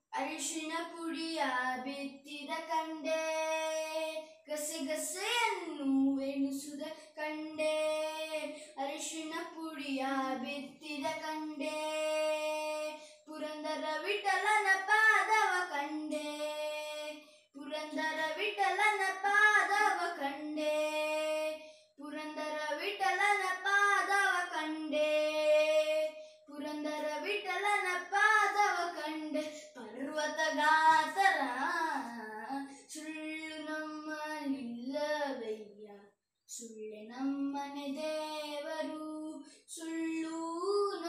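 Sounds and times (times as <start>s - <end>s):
boy singing unaccompanied: 0.2s - 41.0s.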